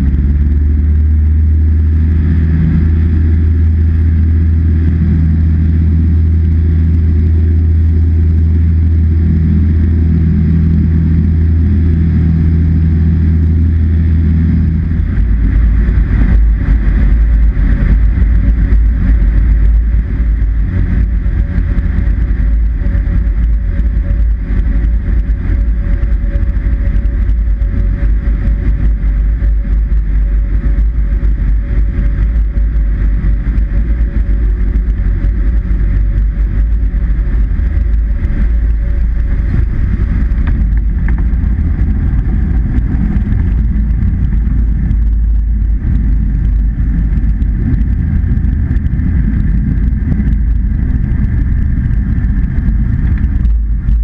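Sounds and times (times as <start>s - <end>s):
propeller plane engine drone: 0.0s - 54.0s
steady tone: 0.0s - 54.0s
wind noise: 0.0s - 54.0s.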